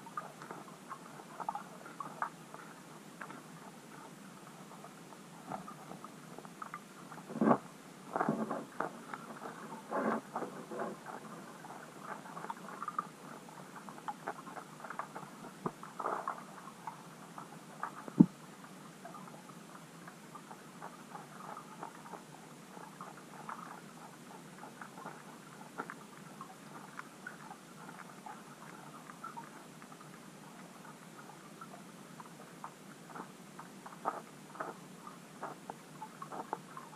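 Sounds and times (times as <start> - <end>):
underwater crackling and clicks: 0.0 - 36.9.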